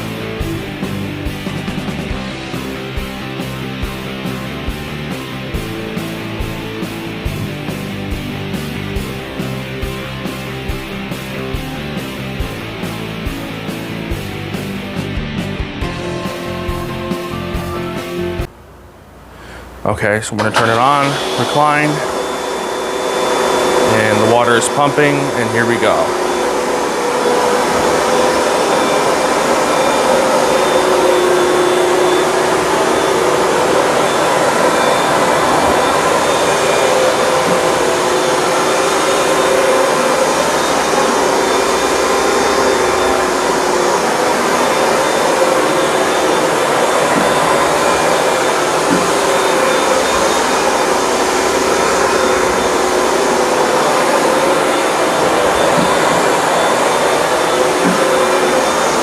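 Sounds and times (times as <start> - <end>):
carpet cleaner motor whining: 0.0 - 18.6, 20.3 - 59.0.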